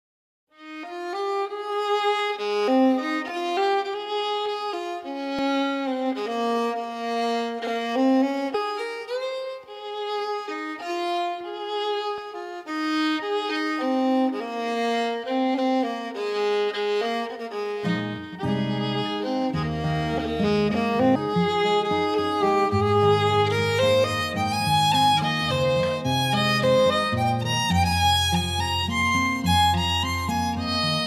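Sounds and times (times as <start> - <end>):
solo violin slow melody: 0.5 - 31.0.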